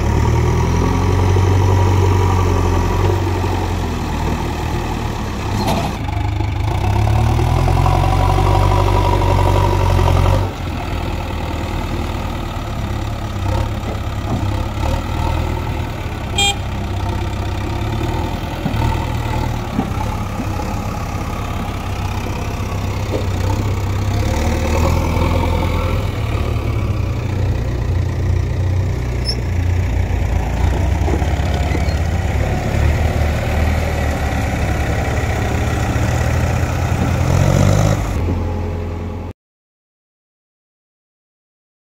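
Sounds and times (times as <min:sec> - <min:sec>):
diesel engines running: 0:00.0 - 0:39.3.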